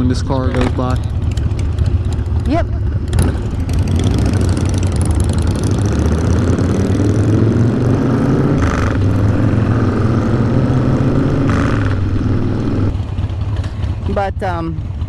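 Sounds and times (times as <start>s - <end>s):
motorcycle engine pulling away: 0.1s - 14.1s.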